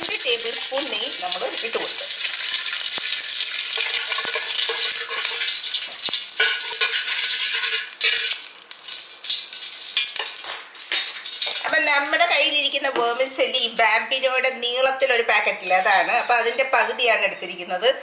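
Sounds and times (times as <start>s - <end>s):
ghee sizzling in a pot: 0.0s - 16.9s.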